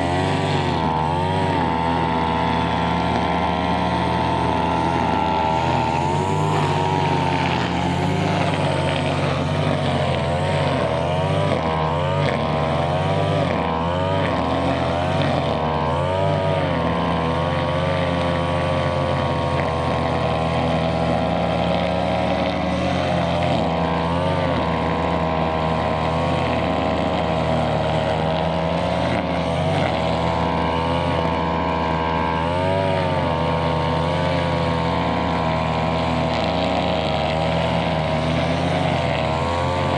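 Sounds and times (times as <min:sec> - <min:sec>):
brushcutter engine cutting grass: 0:00.0 - 0:39.9.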